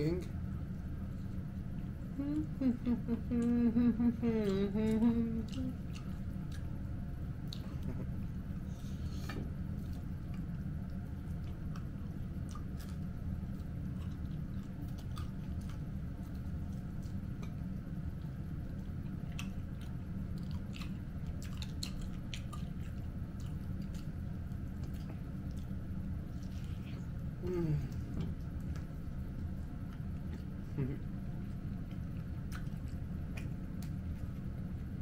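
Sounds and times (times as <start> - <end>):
low background hum: 0.0 - 35.0
person chewing and biting food: 4.4 - 35.0.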